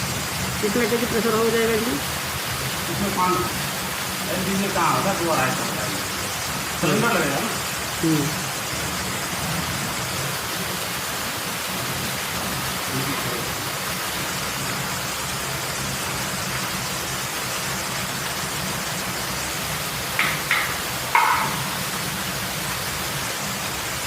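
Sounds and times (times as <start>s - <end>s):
gas torch flame hissing: 0.0s - 24.0s.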